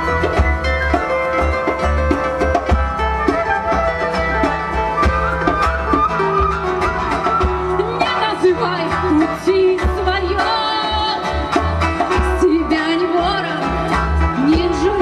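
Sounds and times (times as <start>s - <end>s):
drums and bass beat: 0.0s - 15.0s
folk-rock band playing live: 0.0s - 15.0s.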